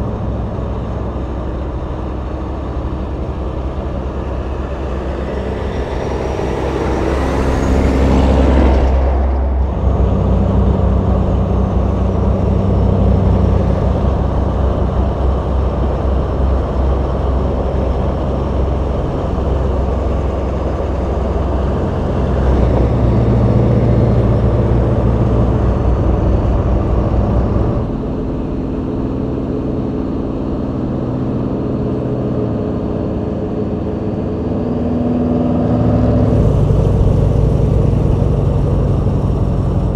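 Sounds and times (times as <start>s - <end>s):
truck diesel engines running: 0.0s - 39.9s.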